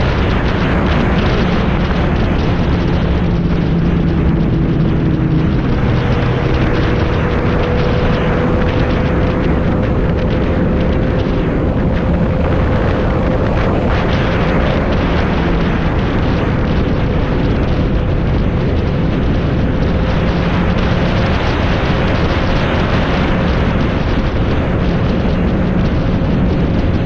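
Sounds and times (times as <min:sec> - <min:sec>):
motorcycle engine drone: 0:00.0 - 0:27.0
wind rush over microphone: 0:00.0 - 0:27.0.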